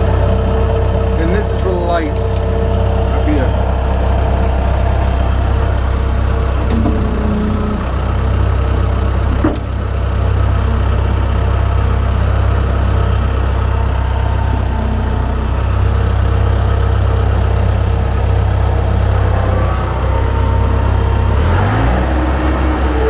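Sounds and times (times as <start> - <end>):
skid steer engine running: 0.0 - 23.0.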